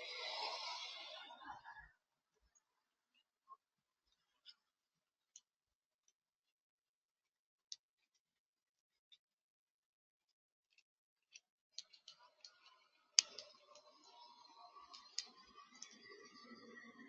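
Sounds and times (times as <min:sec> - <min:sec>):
faint outdoor background: 0:00.0 - 0:17.0.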